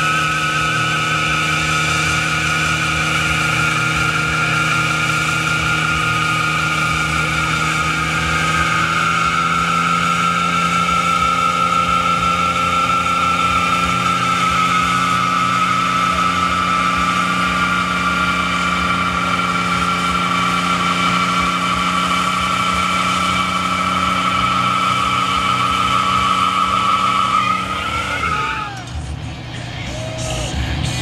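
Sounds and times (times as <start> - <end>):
high-pitched tyre squeal: 0.0 - 29.1
car engine at high revs: 0.0 - 31.0.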